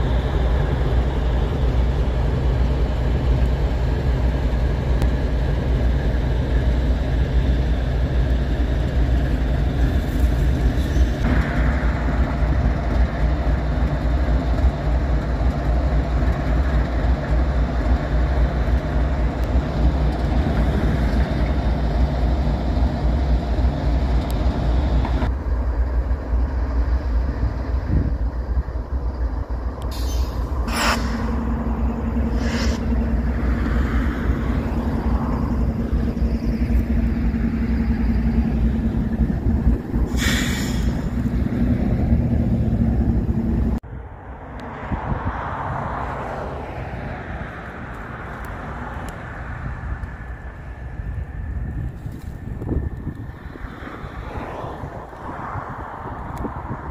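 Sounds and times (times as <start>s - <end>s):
diesel locomotives rumbling past: 0.0s - 56.9s
freight cars rolling by: 0.0s - 56.9s.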